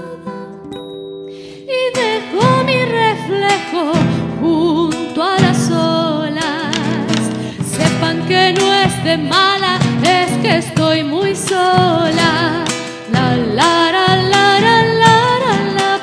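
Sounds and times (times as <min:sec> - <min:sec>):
woman singing with vibrato: 0:00.0 - 0:00.7, 0:01.4 - 0:16.0
acoustic guitar: 0:00.0 - 0:16.0.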